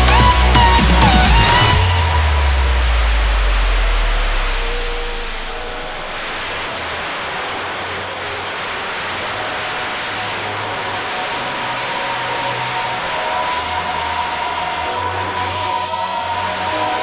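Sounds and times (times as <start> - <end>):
propellers rushing hiss: 0.2 - 17.0
motor whine: 1.4 - 17.0.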